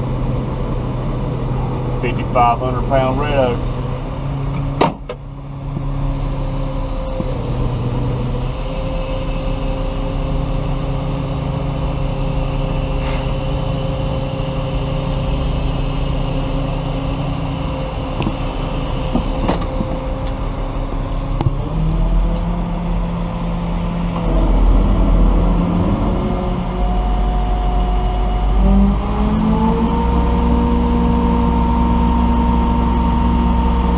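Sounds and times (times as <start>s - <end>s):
crane engine under load: 0.0s - 33.9s.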